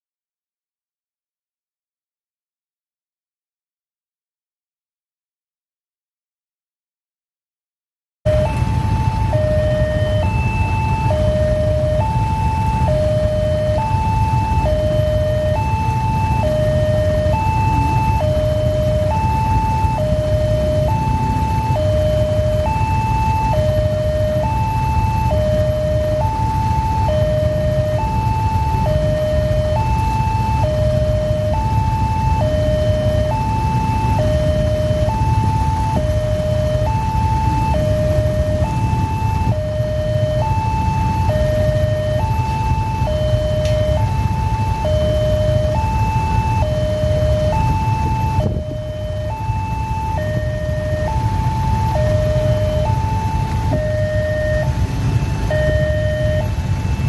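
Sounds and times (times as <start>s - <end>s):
idling engines rumble: 8.3s - 57.0s
two-tone crossing alarm: 8.3s - 57.0s.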